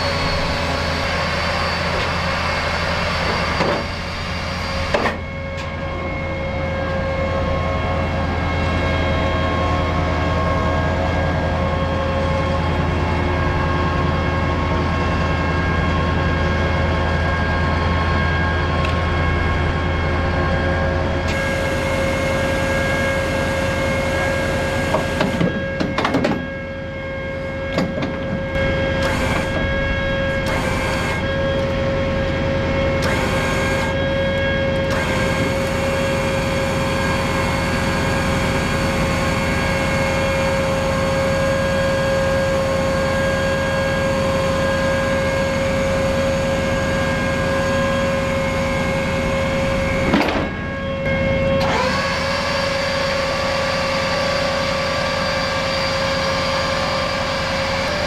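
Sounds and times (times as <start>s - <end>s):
tracked vehicle engine running: 0.0s - 26.5s, 27.3s - 58.0s
steady whine: 0.0s - 58.0s.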